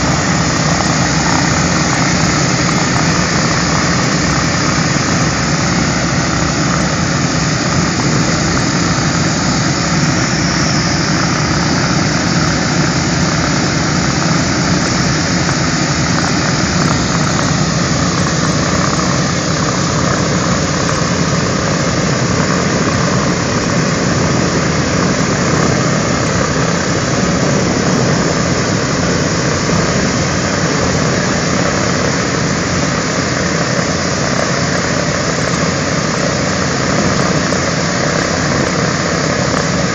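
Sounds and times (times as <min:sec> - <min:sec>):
piston aircraft engines droning: 0:00.0 - 0:39.9.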